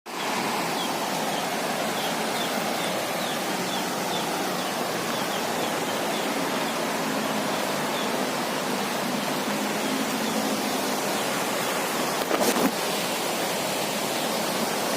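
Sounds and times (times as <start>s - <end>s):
rushing stream water: 0.1s - 14.9s.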